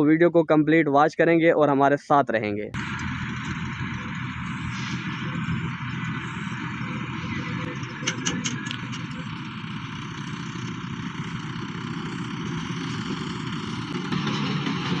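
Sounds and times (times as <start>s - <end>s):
diesel engines running: 2.6s - 15.0s.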